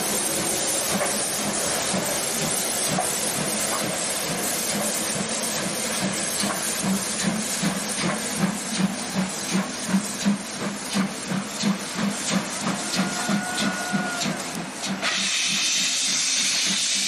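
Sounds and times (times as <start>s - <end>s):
steam hissing: 0.0s - 17.0s
steam locomotive exhaust chuffs: 0.0s - 17.0s.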